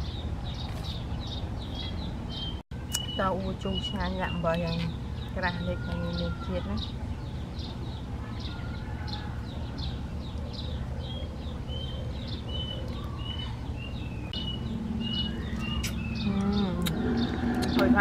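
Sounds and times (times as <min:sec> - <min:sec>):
songbird chirping: 0:00.0 - 0:18.0
steady low hum: 0:00.0 - 0:18.0.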